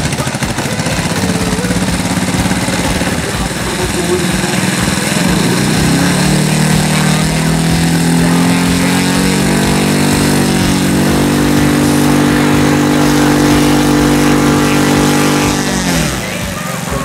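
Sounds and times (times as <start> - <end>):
model airplane engine revving: 0.0 - 17.0.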